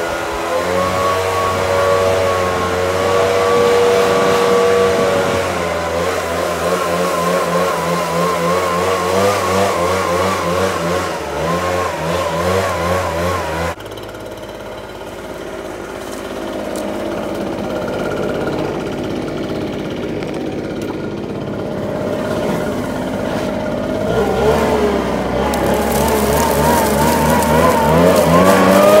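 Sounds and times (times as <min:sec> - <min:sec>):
leaf blower engine running: 0:00.0 - 0:29.0.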